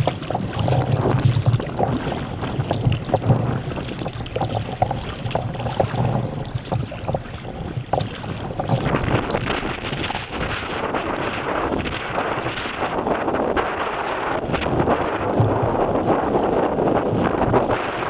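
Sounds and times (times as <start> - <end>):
water splashing against kayak: 0.0 - 18.0
wind buffeting microphone: 0.0 - 18.0.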